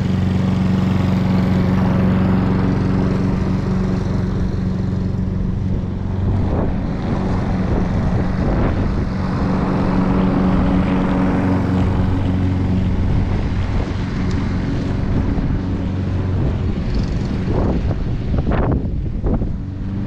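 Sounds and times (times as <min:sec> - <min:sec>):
petrol lawnmower running: 0:00.0 - 0:20.0.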